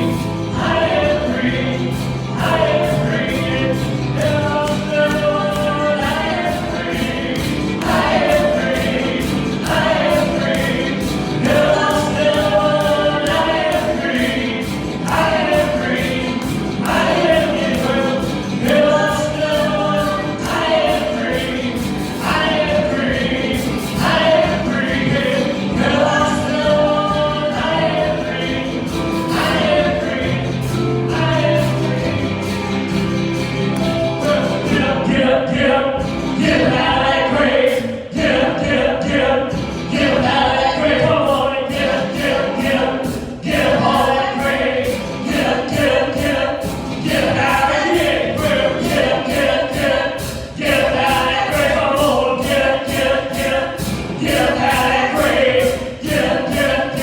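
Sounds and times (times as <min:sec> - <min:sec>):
gospel choir singing a hymn: 0:00.0 - 0:57.0.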